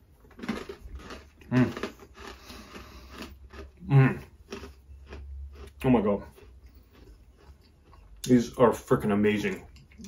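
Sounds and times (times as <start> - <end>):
man chewing crunchy biscotti: 0.0 - 8.8, 9.4 - 10.0.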